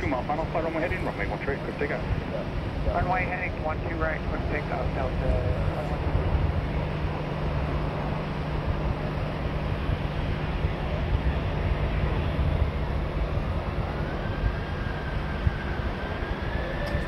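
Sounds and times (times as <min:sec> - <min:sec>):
jet engines rumbling: 0:00.0 - 0:17.0
thin rising whine: 0:00.0 - 0:17.0.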